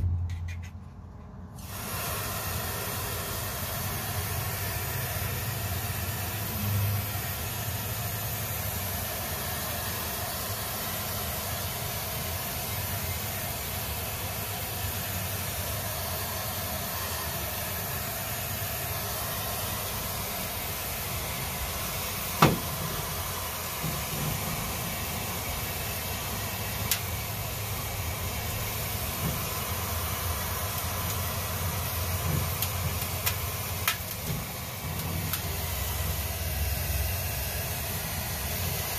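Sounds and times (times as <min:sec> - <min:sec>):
air duster spraying hiss: 0:01.5 - 0:38.9.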